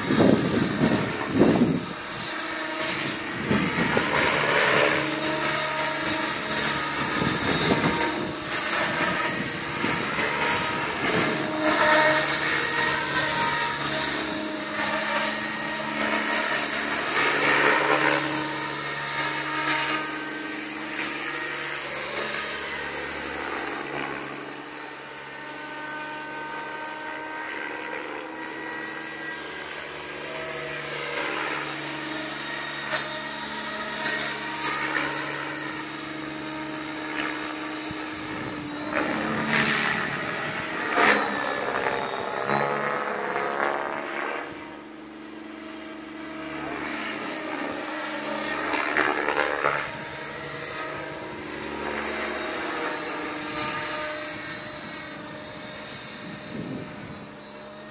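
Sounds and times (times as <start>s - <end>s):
model helicopter rotor whining: 0.0s - 57.9s.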